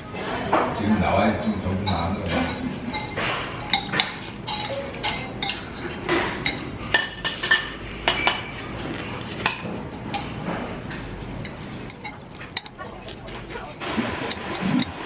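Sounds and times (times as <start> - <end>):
dishes and cutlery clinking: 0.5 - 15.0.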